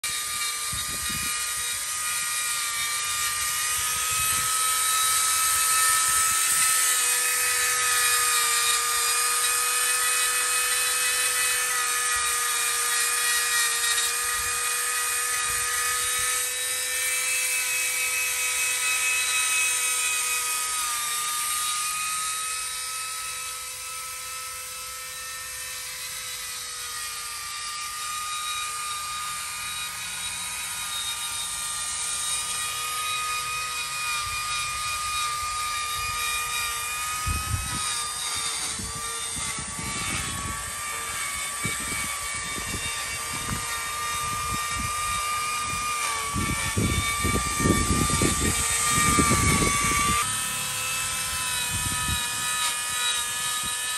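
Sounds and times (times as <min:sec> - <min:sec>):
die grinder whining into wood: 0:00.0 - 0:53.9.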